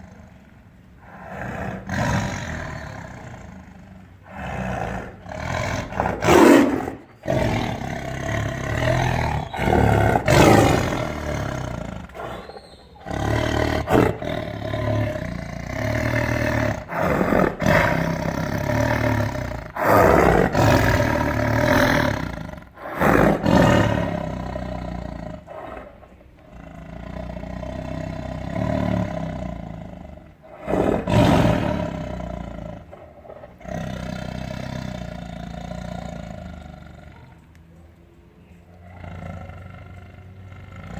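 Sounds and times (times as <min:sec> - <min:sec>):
tiger roaring and growling: 0:00.0 - 0:37.6, 0:38.6 - 0:40.9.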